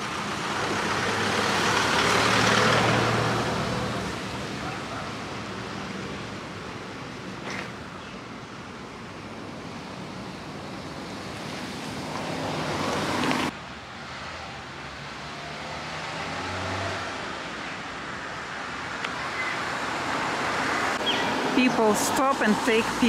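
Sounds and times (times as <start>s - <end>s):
cars passing with tyre hiss: 0.0s - 23.0s
traffic noise with engine hum: 0.0s - 23.0s.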